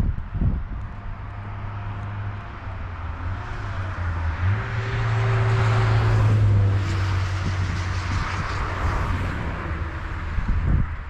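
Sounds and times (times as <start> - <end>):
passing motor vehicle: 0.0 - 11.0.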